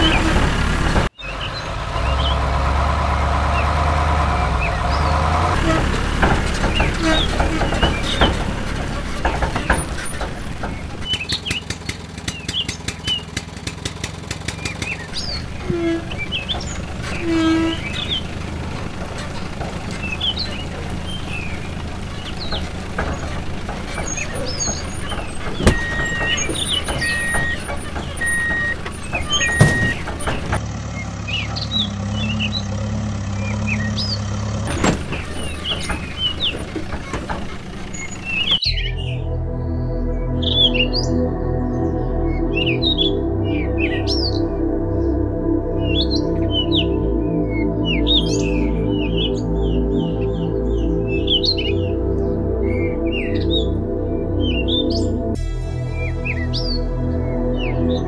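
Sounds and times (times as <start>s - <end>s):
birds chirping: 0.0s - 58.0s
truck engine running: 0.0s - 58.0s.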